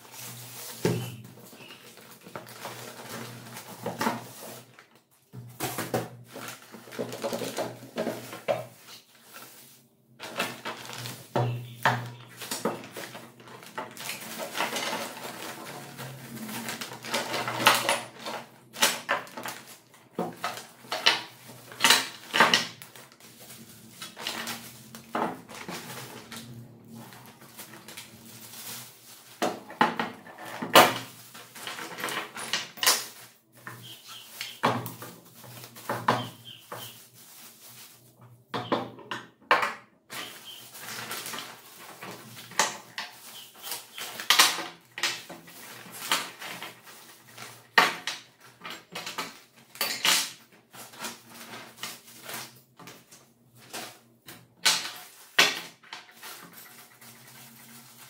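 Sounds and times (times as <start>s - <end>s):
plastic bag and bubble wrap crinkling: 0.0s - 38.8s, 40.1s - 58.0s.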